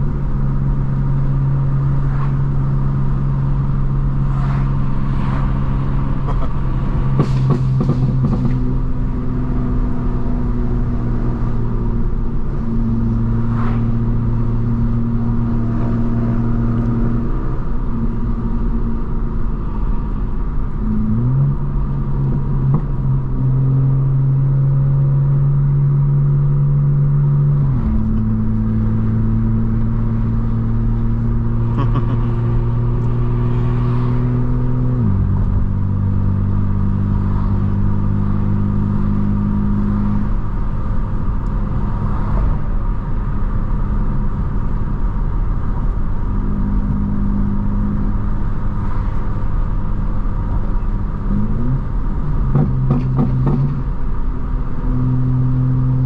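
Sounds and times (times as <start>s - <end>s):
car exhaust drone: 0.0s - 56.0s.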